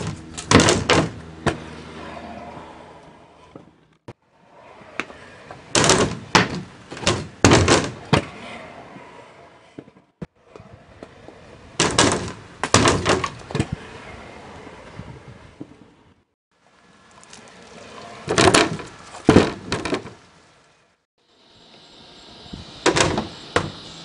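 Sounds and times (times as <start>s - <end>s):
skateboard wheels rolling: 0.2s - 20.9s.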